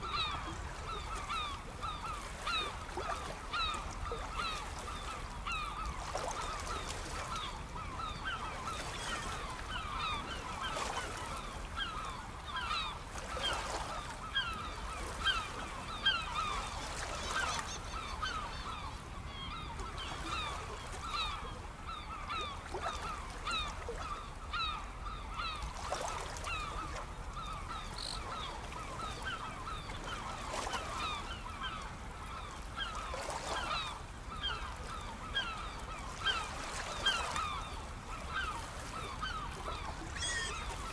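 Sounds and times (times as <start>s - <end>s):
flock of birds calling: 0.0s - 25.6s, 27.4s - 40.9s.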